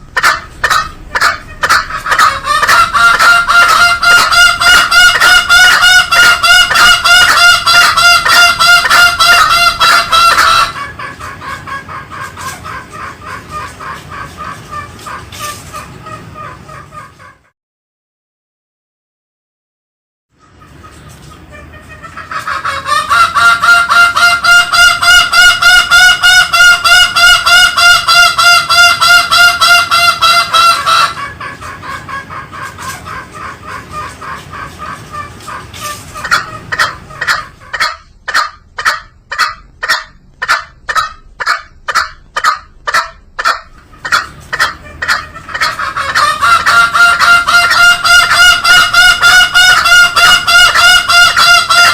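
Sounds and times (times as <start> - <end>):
junglefowl honking calls: 0.0 - 17.5, 20.4 - 51.9.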